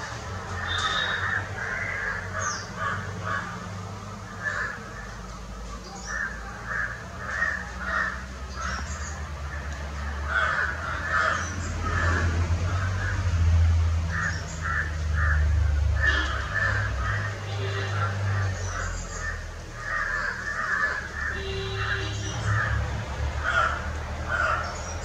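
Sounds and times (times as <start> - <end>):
crows cawing: 0.5 - 5.4, 6.0 - 13.3, 14.1 - 25.0.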